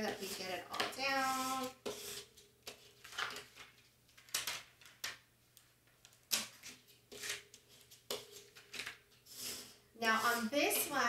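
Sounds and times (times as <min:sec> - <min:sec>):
plastic tape crinkling and rustling: 0:00.0 - 0:09.1.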